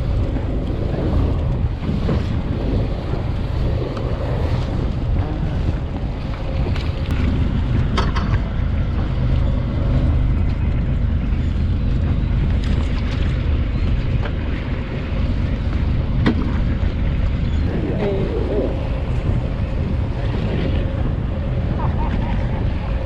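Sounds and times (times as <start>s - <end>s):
boat engine rumble: 0.0s - 23.0s
wind buffeting microphone: 0.0s - 23.0s.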